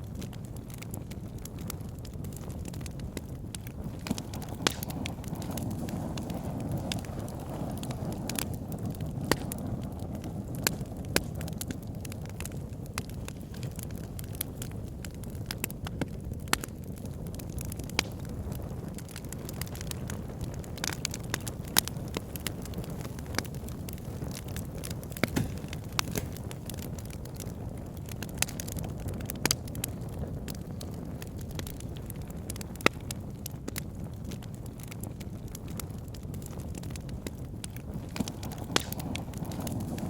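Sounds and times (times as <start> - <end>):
campfire crackling and popping: 0.0 - 40.0
fire low rumble: 0.0 - 40.0.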